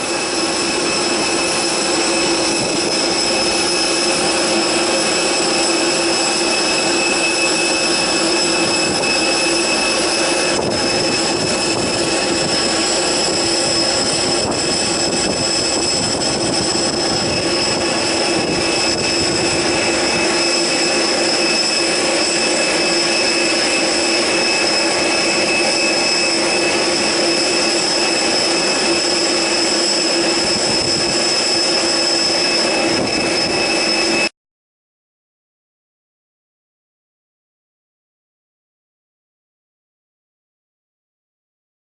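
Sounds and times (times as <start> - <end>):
jet engines running: 0.0 - 34.3.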